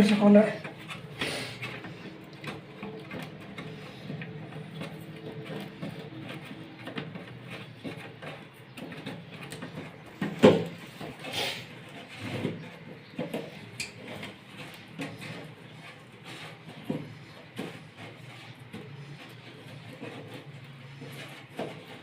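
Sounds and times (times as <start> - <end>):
toilet tank parts clicking and rattling: 0.0 - 22.0.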